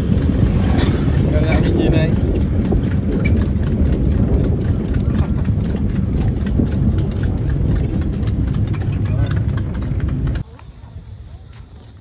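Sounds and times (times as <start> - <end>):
horse hooves clip-clopping on pavement: 0.0 - 12.0.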